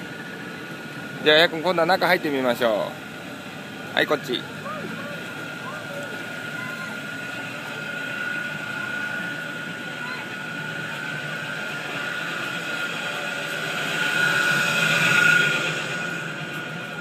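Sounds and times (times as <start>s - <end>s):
machinery whine and hum: 0.0s - 17.0s.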